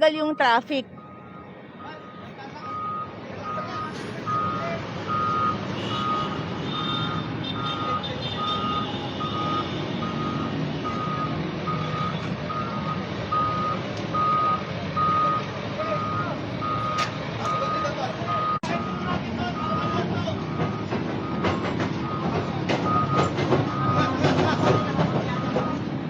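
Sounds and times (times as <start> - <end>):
reversing alarm beeping: 0.0 - 25.9
engine rumbling: 0.0 - 26.0
traffic: 0.0 - 26.0.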